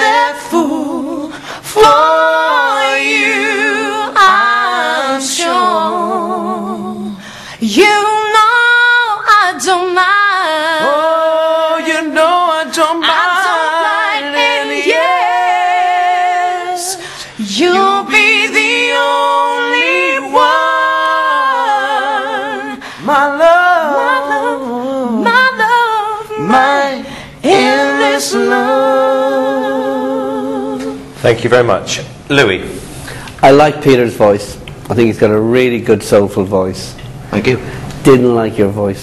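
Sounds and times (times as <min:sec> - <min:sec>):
man and woman singing duet: 0:00.0 - 0:31.2.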